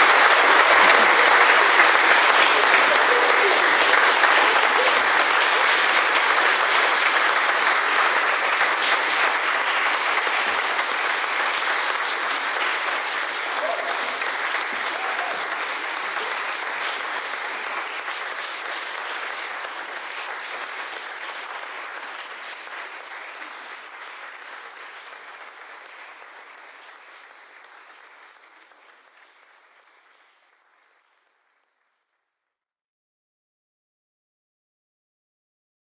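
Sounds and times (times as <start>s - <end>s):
audience applauding: 0.0s - 32.1s.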